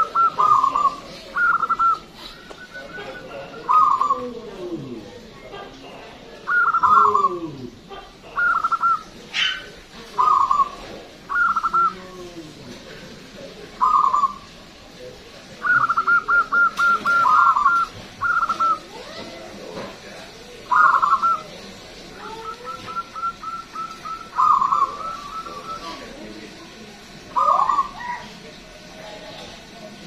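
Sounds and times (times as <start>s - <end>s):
dove cooing: 0.0s - 13.1s, 13.7s - 14.6s, 15.6s - 26.5s, 27.2s - 28.6s.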